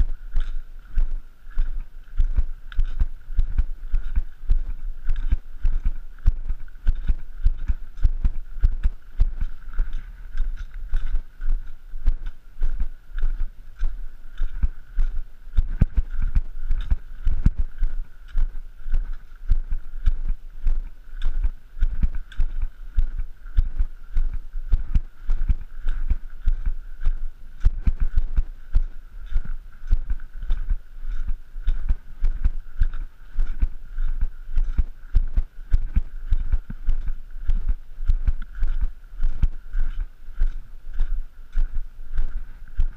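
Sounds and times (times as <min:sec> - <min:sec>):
footsteps on gravel trail: 0:00.0 - 0:42.9.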